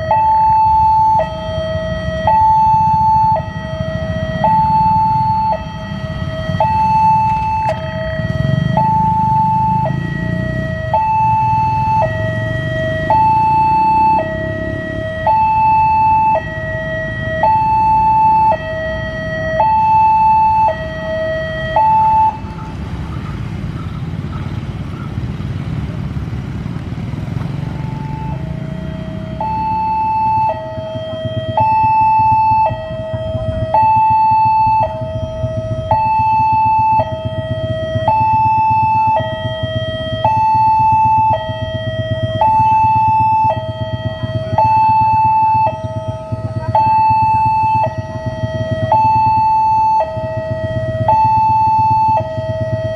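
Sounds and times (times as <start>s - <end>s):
level crossing warning alarm: 0.0s - 24.4s, 26.6s - 52.9s.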